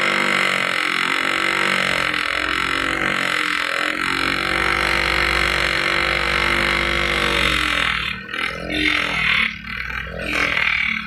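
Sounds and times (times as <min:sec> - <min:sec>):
electric grinder humming: 0:00.0 - 0:11.0.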